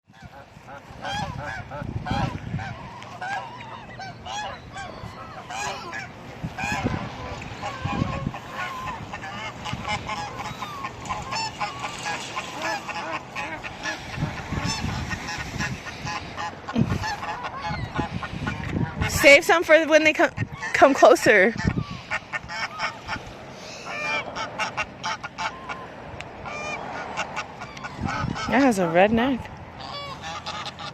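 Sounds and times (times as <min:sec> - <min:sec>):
gulls and ducks calling: 0:00.1 - 0:30.9.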